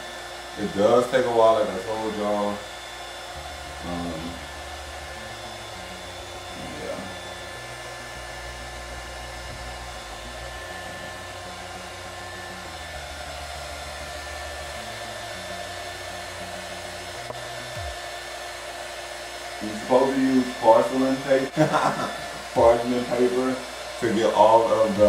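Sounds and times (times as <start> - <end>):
heat gun blowing air: 0.0 - 25.0.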